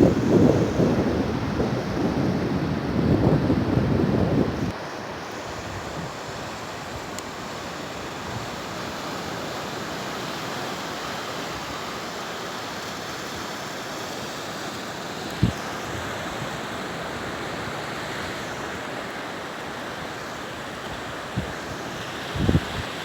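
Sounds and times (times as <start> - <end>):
ocean surf on beach: 0.0 - 23.0.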